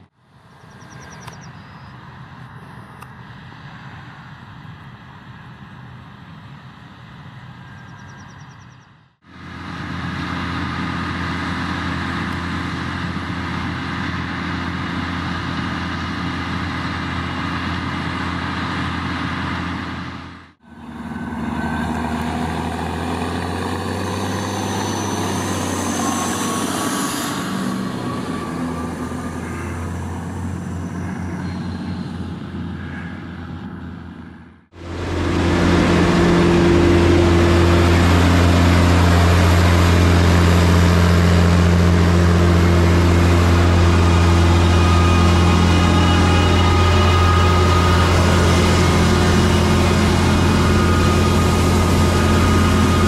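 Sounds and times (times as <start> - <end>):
diesel engines running: 0.0 - 53.0
rising whine: 0.0 - 53.0
tractor driving past: 0.0 - 53.0.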